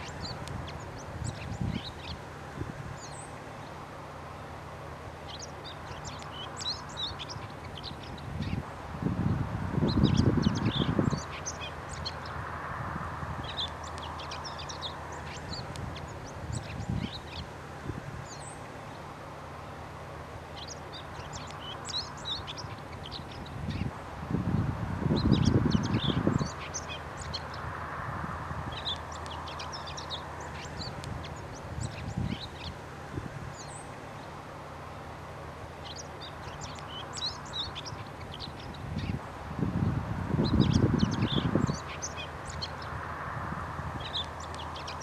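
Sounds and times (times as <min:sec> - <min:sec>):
small birds chirping: 0:00.0 - 0:45.0
steady low background hum: 0:00.0 - 0:45.0.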